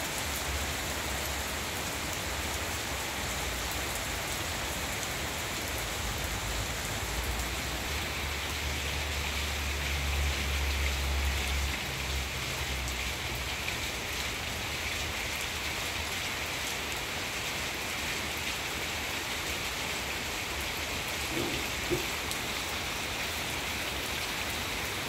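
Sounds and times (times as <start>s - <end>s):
steady rain on paving and plants: 0.0s - 25.0s.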